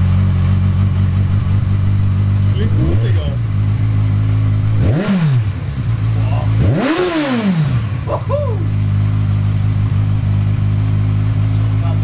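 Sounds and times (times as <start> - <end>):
motorcycle engine idling: 0.0 - 12.0
motorcycle throttle revs: 0.0 - 12.0.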